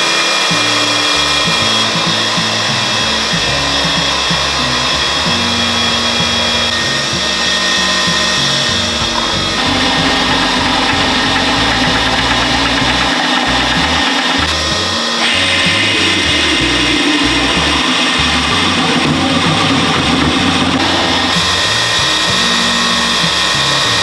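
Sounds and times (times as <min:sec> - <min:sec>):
background music: 0:00.0 - 0:24.0
motor-driven machine running: 0:00.0 - 0:24.0.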